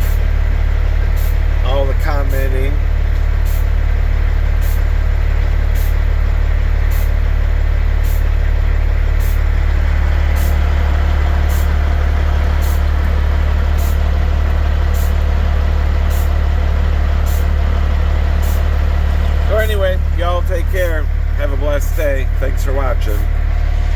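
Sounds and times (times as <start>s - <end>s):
diesel truck engine idling: 0.0s - 23.9s.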